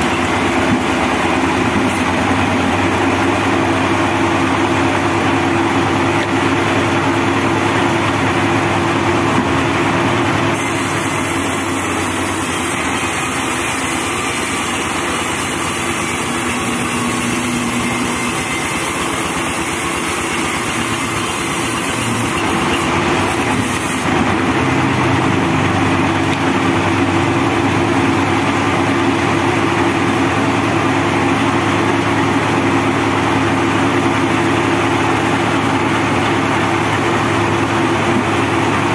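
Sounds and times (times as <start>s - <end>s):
band sawmill sawing a log: 0.0s - 38.9s.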